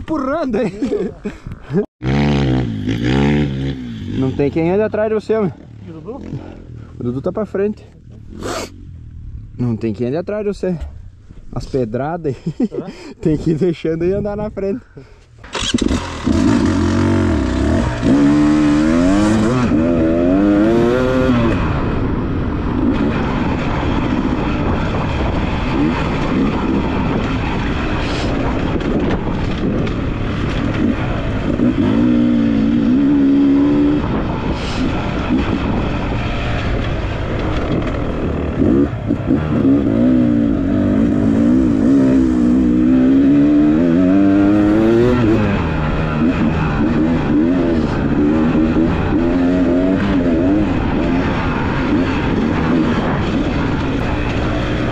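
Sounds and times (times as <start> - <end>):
dirt bike engine revving: 2.0 - 7.6, 15.5 - 54.9.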